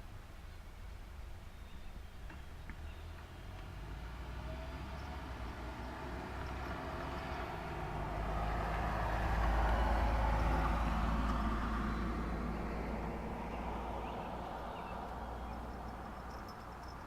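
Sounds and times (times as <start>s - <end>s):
vehicle passing by: 2.9s - 17.0s.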